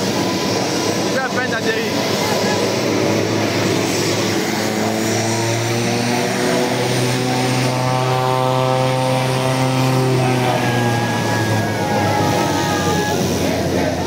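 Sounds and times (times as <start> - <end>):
turboprop plane engines humming: 0.0 - 14.0.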